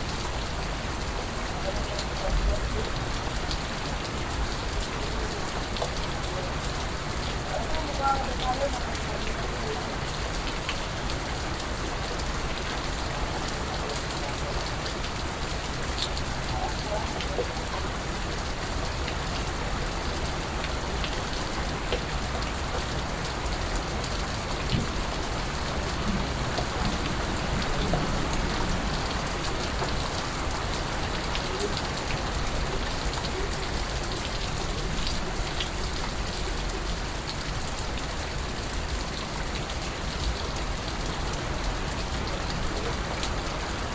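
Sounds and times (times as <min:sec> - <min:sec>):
steady rain falling: 0:00.0 - 0:43.9
water drips ticking on a surface: 0:00.0 - 0:43.9.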